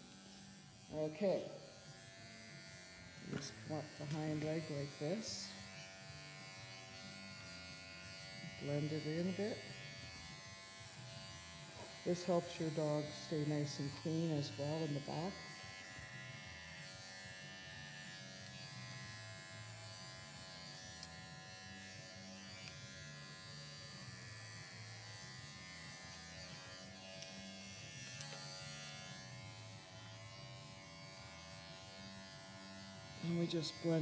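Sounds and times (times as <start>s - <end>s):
electric clippers buzzing: 0.0s - 34.0s.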